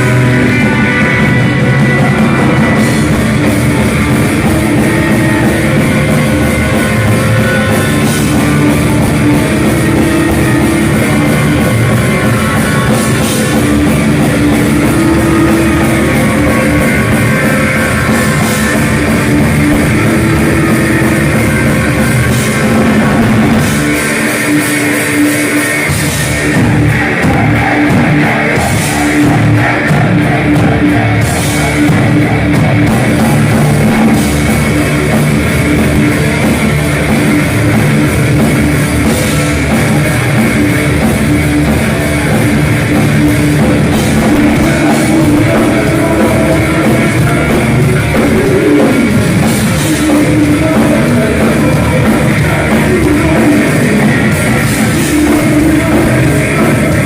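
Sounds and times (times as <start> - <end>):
live heavy metal band: 0.0 - 57.0.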